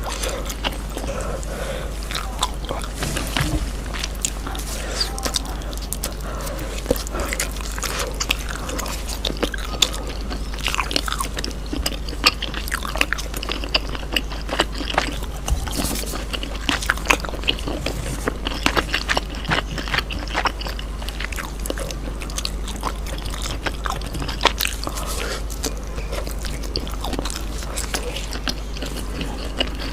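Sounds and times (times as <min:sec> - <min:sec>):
biting and chewing: 0:00.0 - 0:29.9
steady low hum: 0:00.0 - 0:29.9
crunchy wet mouth clicks: 0:03.9 - 0:29.9.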